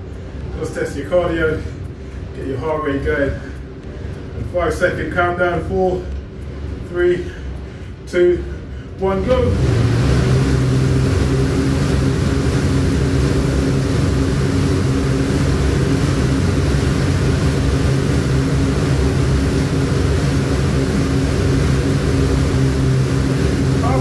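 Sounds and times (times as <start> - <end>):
air bike fan wheel spinning: 0.0 - 24.0.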